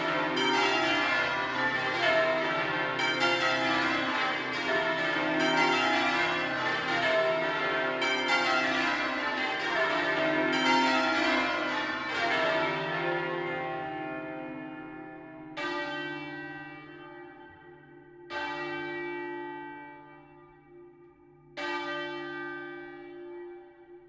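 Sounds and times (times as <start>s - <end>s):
church bells change ringing: 0.0s - 24.0s.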